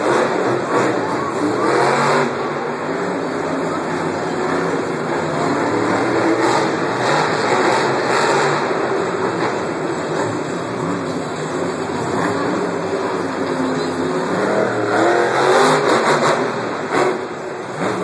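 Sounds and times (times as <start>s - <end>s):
truck engines revving: 0.0s - 18.0s.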